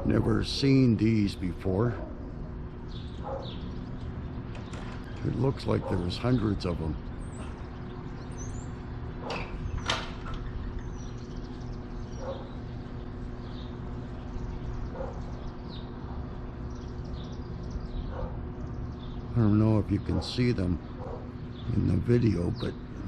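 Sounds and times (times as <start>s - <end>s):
low hum: 0.0s - 23.0s
small birds chirping: 0.0s - 23.0s.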